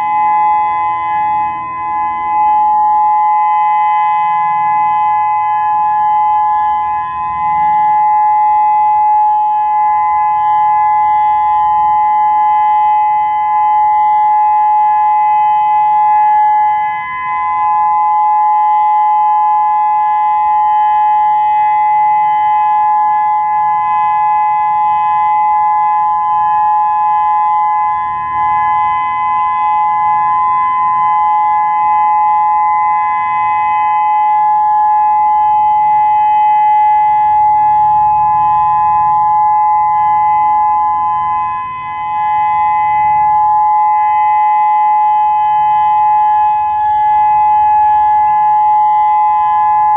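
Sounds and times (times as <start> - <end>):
two-tone warning siren: 0.0 - 49.9.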